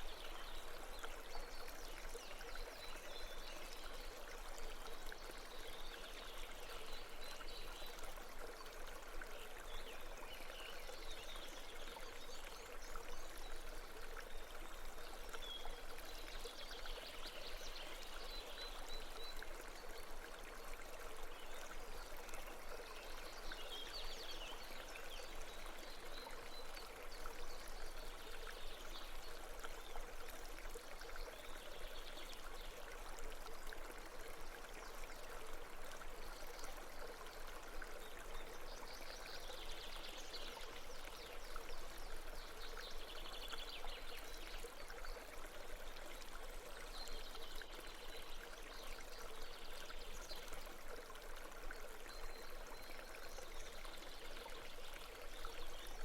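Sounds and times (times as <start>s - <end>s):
water flowing over stones: 0.0s - 56.0s.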